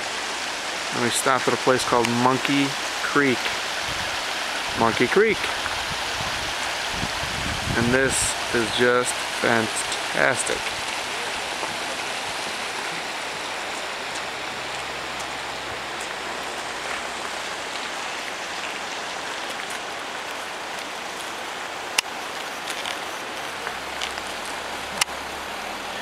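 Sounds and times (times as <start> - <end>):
running water rushing: 0.0 - 26.0.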